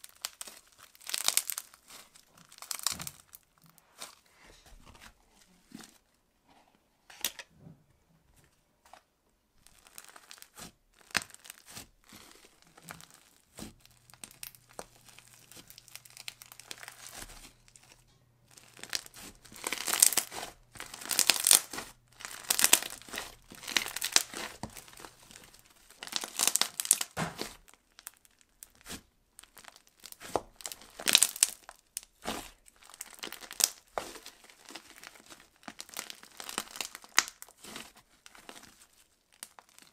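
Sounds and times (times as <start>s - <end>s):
slime crackling and popping: 0.0s - 3.8s, 9.6s - 39.9s.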